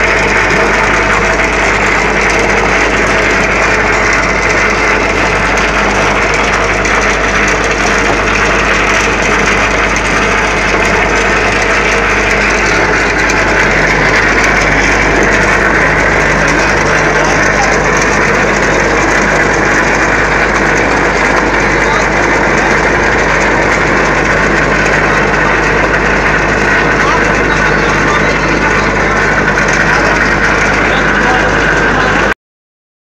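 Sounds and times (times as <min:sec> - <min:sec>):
vibrating table humming and rattling: 0:00.0 - 0:32.4.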